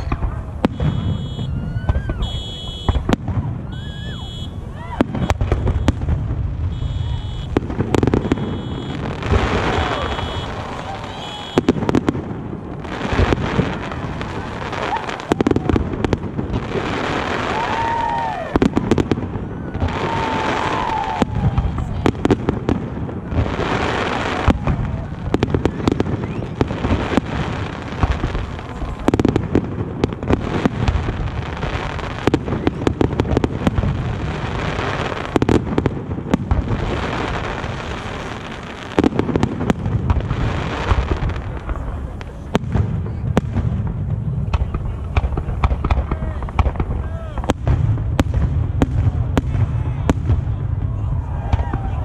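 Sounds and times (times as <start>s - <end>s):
fireworks bangs: 0.0s - 52.0s
hissing fireworks crackle: 0.0s - 52.0s.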